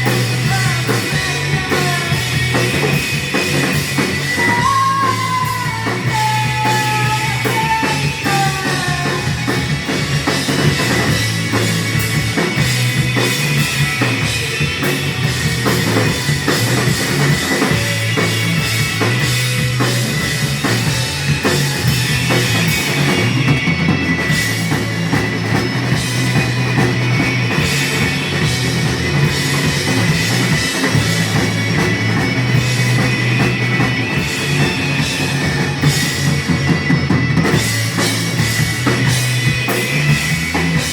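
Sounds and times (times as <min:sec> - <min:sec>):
drum kit beating: 0:00.0 - 0:40.9
loud rock music: 0:00.0 - 0:40.9.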